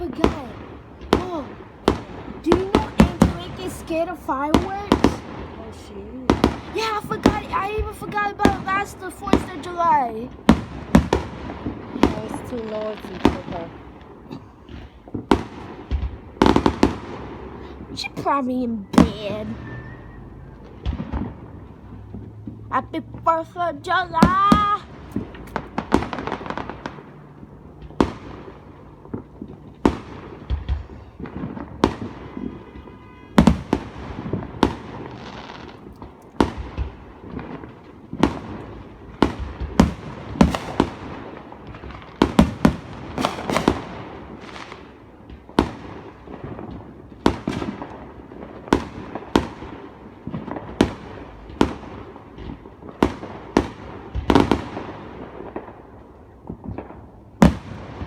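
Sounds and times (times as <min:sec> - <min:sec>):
fireworks exploding: 0:00.0 - 0:58.0.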